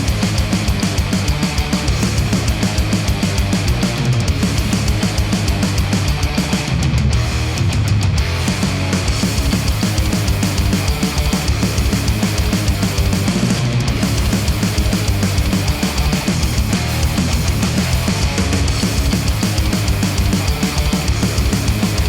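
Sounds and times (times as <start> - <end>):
heavy rock music: 0.0 - 22.0.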